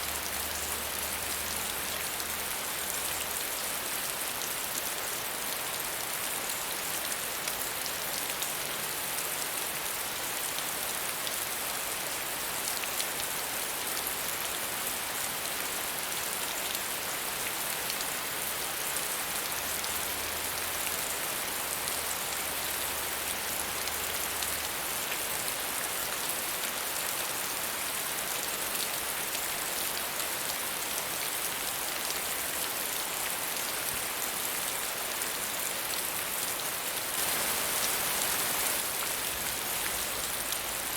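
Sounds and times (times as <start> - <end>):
rain hissing on surfaces: 0.0 - 40.9.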